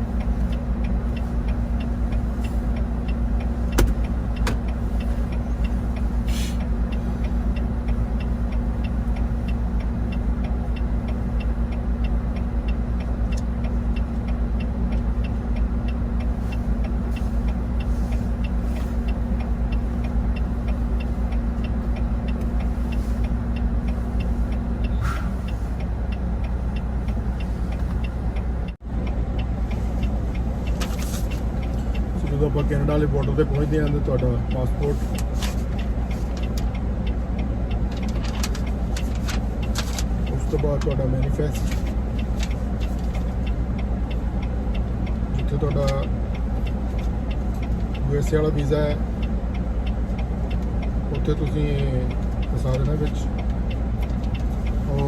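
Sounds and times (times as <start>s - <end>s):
faint regular ticking: 0.0s - 55.0s
steady hum: 0.0s - 55.0s
vehicle engine and road rumble: 0.0s - 55.0s.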